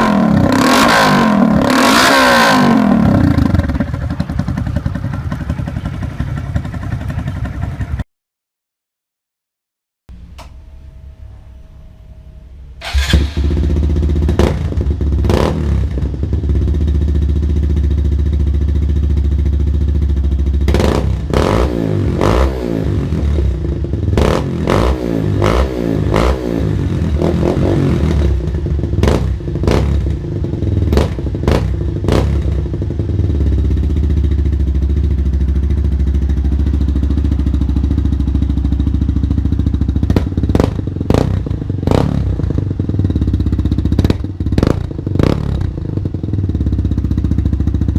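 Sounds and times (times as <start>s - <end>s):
motorcycle engine idling and revving: 0.0s - 8.0s, 12.8s - 47.9s.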